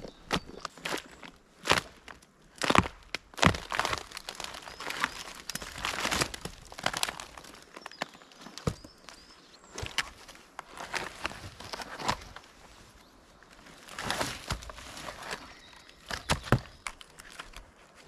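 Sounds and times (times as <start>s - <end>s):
material crinkling and rustling: 3.4s - 18.0s.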